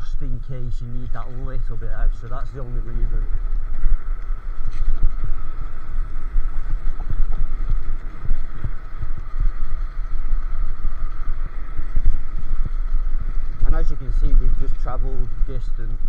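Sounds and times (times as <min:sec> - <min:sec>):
steady high whine: 0:00.0 - 0:16.0
wind buffeting microphone: 0:00.0 - 0:16.0.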